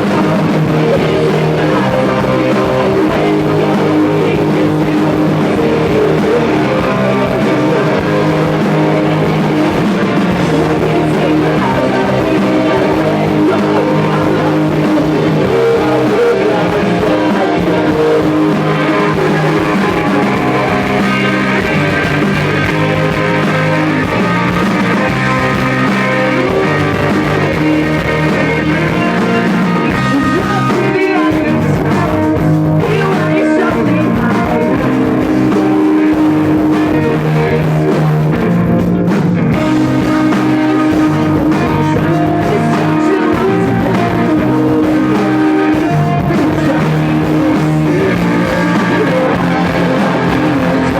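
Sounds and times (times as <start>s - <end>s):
live rock band with guitars: 0.0s - 50.9s.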